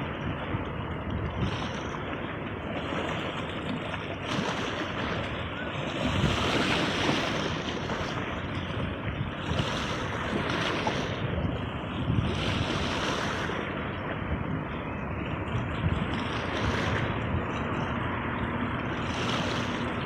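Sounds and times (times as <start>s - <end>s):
sea waves breaking: 0.0s - 20.0s.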